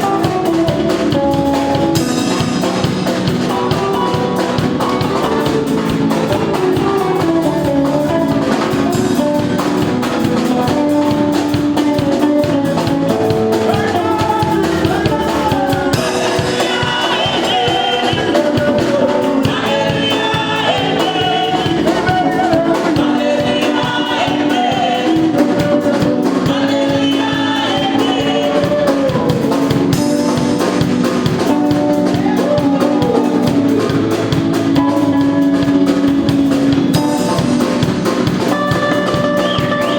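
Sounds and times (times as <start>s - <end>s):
person singing: 0.0s - 37.6s
drum kit: 0.0s - 39.9s
live band playing gospel: 0.0s - 39.9s.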